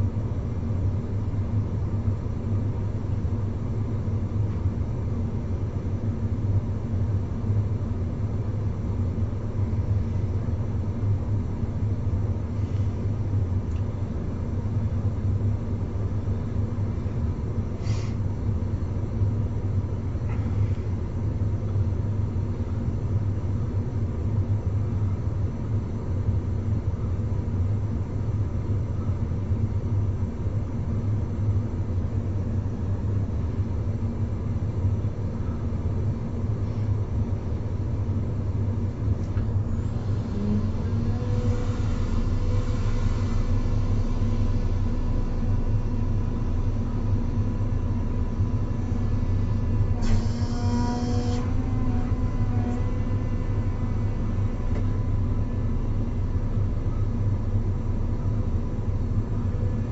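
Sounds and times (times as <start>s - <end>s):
excavator hum and rumble: 0.0s - 59.9s.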